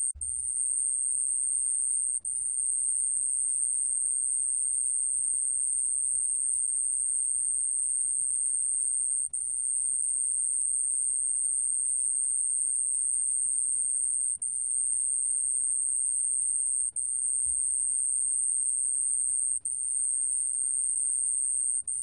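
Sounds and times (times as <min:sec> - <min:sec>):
cricket high-pitched trill: 0:00.0 - 0:22.0.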